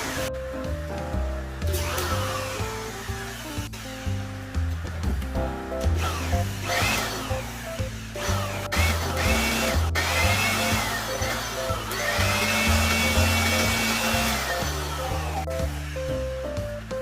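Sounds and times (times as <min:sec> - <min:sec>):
electric air blower running: 0:00.0 - 0:00.3, 0:01.6 - 0:05.2, 0:05.8 - 0:16.9
background music: 0:00.0 - 0:17.0.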